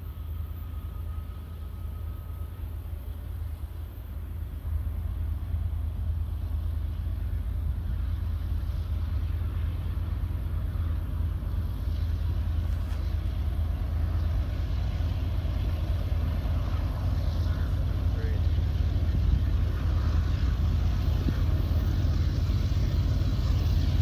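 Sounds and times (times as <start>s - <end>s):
diesel locomotive engine rumble: 0.0s - 24.0s
train clatter: 4.7s - 24.0s.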